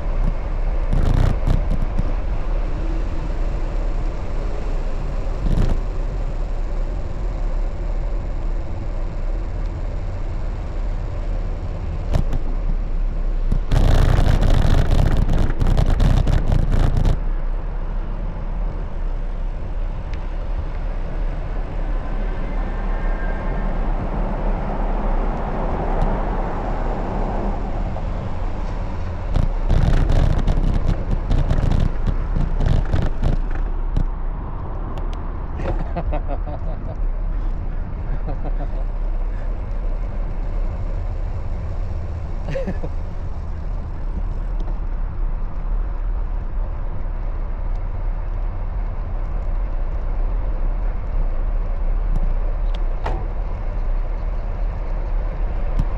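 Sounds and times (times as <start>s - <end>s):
road and wind noise: 0.0s - 55.9s
traffic passing: 0.0s - 55.9s.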